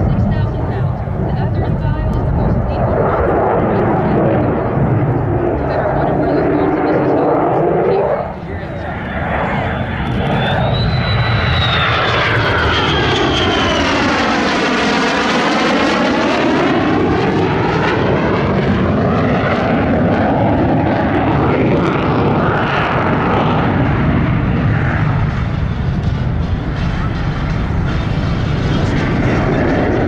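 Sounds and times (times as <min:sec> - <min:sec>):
high whine: 0:00.0 - 0:30.0
jet engine roaring: 0:00.0 - 0:30.0
jet passing whoosh: 0:00.0 - 0:30.0.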